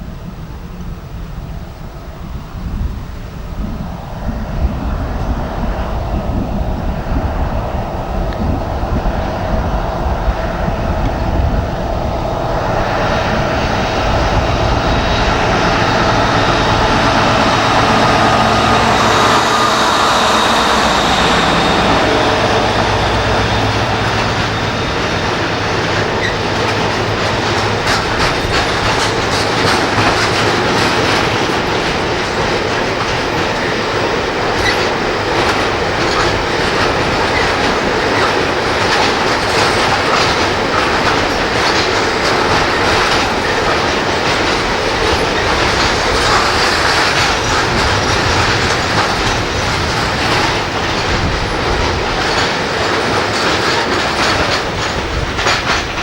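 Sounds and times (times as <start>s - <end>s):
diesel engine drone: 0.1s - 56.0s
wagon wheels clattering over rail joints: 10.0s - 56.0s.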